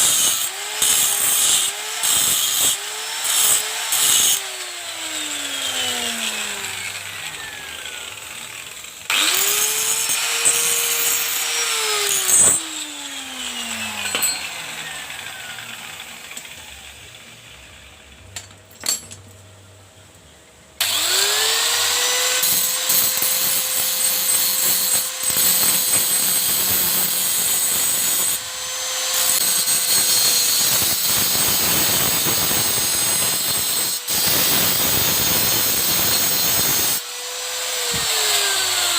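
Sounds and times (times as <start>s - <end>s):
tool grinding material: 0.0s - 16.8s, 20.8s - 38.9s
power tool motor whining: 0.0s - 17.2s, 20.8s - 38.9s.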